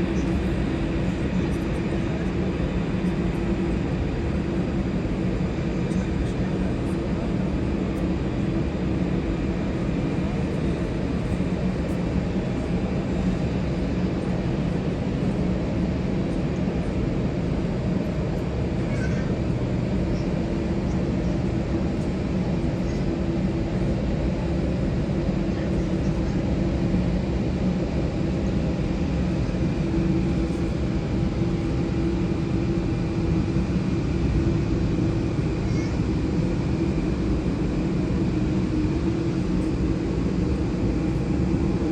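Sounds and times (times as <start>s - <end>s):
jet engines humming: 0.0s - 41.9s.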